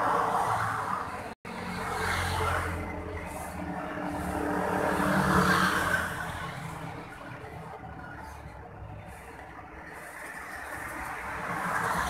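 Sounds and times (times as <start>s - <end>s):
vehicle passing on wet street: 0.0s - 8.4s, 9.0s - 12.0s.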